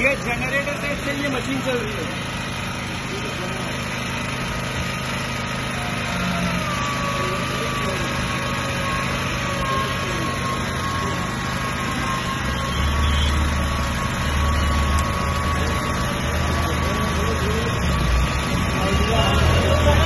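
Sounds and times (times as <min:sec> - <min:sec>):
petrol generator running: 0:00.0 - 0:20.0.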